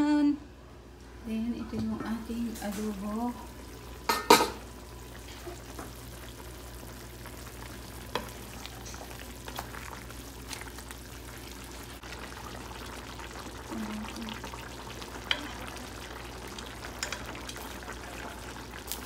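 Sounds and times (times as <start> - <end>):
stew simmering and sizzling: 1.0 - 19.0.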